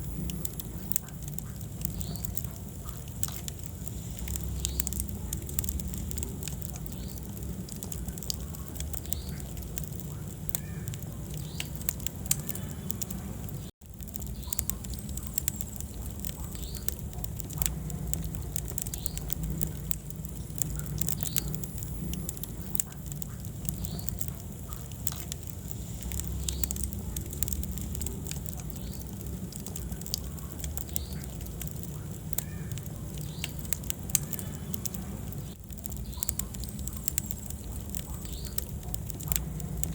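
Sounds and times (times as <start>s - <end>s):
fire rumbling: 0.0s - 39.9s
wood crackling and popping: 0.0s - 39.9s.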